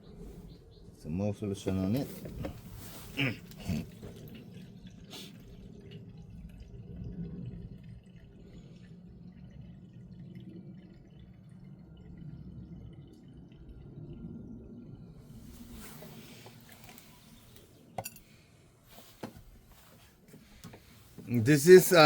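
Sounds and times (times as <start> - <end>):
faint liquid dripping: 0.0 - 22.0.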